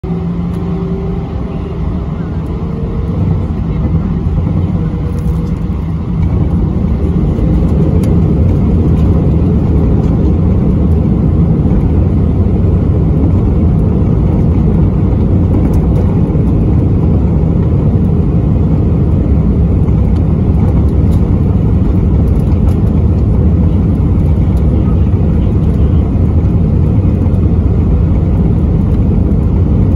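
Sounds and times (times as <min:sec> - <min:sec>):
jet engines at takeoff power: 0:00.0 - 0:29.9.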